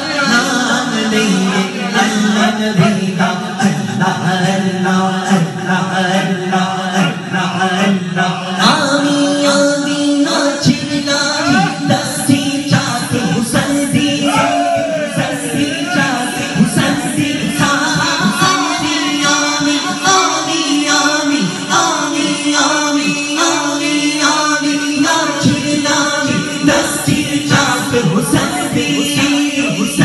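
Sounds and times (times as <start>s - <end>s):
man singing into a microphone: 0.0s - 30.0s.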